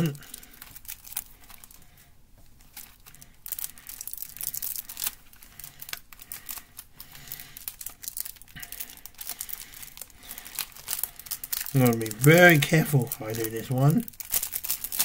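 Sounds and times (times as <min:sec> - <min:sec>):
plastic wrapping crinkling and tearing: 0:00.0 - 0:15.0.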